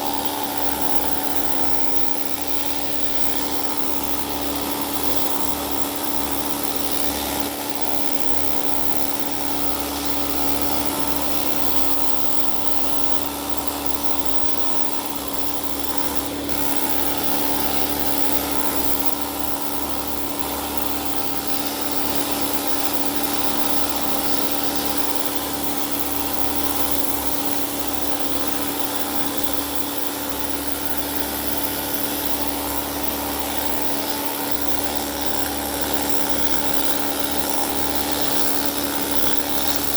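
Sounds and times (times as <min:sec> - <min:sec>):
needle scaler chipping metal: 0:00.0 - 0:39.9.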